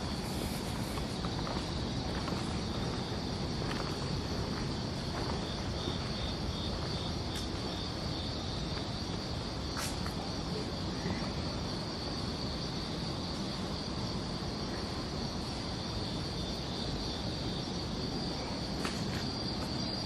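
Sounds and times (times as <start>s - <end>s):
insect pulsing rhythmically: 0.0s - 20.0s
insects chirring: 0.0s - 20.0s.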